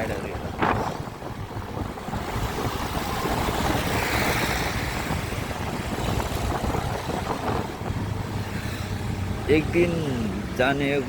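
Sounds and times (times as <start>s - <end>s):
motorcycle road and engine rumble: 0.0s - 11.0s
wind rushing on microphone: 0.0s - 11.0s.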